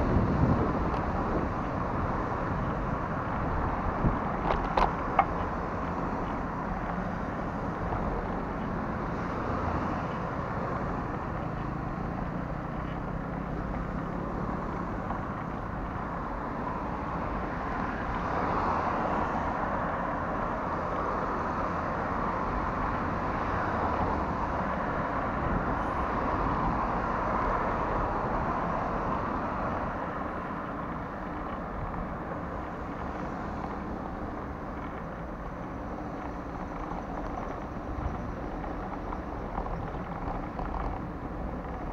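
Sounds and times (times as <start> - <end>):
cars driving past: 0.0 - 41.9
low traffic rumble: 0.0 - 41.9.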